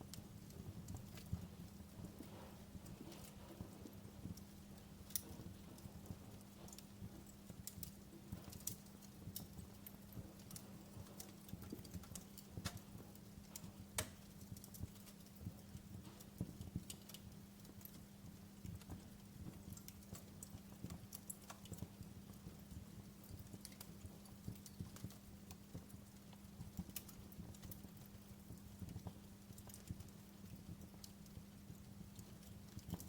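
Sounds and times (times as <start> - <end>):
faint steady hum: 0.0 - 33.0
wood fire crackling: 0.0 - 33.0.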